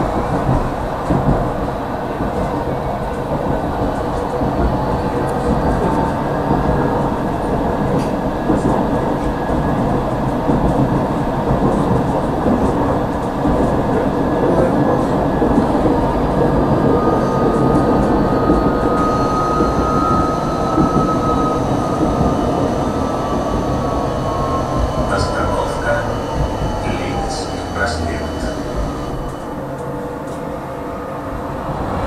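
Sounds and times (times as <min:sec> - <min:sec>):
tram wheels rumbling on rails: 0:00.0 - 0:32.0.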